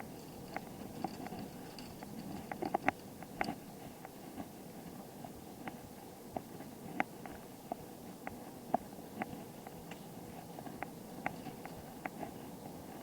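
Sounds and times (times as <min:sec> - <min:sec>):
bicycle clicks and rattles: 0:00.0 - 0:05.0, 0:06.9 - 0:13.0
bicycle tyres rolling on road: 0:00.0 - 0:13.0.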